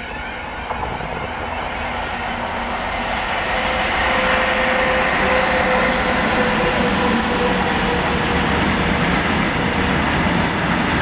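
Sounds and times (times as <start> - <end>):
electric locomotive approaching: 0.0 - 11.0
wheel and rail noise: 0.0 - 11.0.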